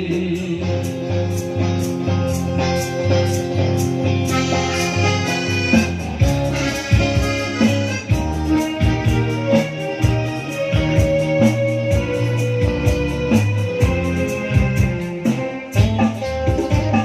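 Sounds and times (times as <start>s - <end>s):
instrumental film-style music: 0.0s - 17.0s.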